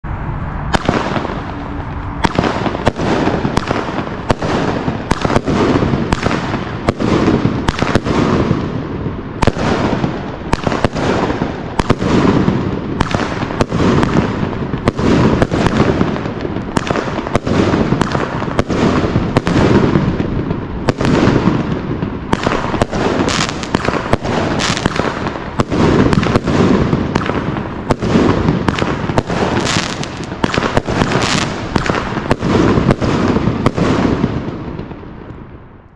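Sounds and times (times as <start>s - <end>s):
firework bangs: 0.1s - 35.9s.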